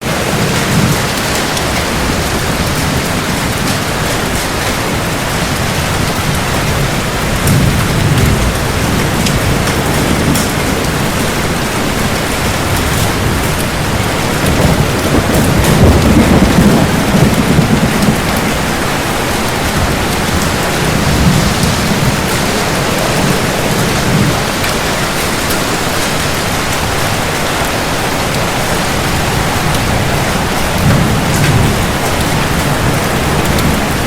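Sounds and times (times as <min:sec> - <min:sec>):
heavy rain: 0:00.0 - 0:34.0
thunder rumbling: 0:00.0 - 0:34.0.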